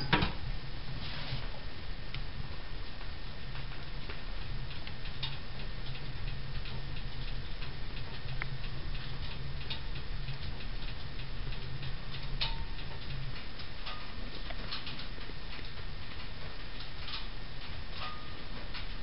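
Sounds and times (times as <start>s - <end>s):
steady low hum: 0.0s - 19.0s
firewood crackling and popping: 0.4s - 19.0s.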